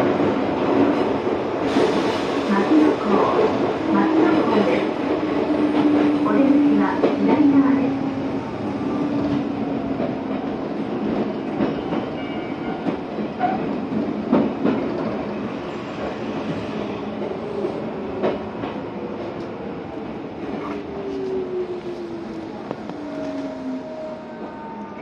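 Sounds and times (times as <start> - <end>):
train rail rumble: 0.0 - 25.0.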